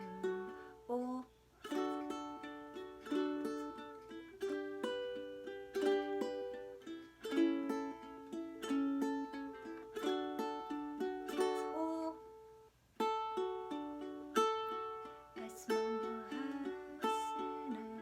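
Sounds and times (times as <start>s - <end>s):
ukulele fingerstyle playing: 0.0s - 18.0s.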